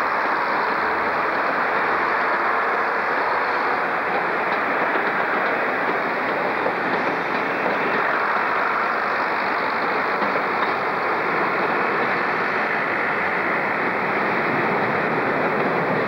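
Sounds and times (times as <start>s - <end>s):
diesel train engines running: 0.0s - 16.0s.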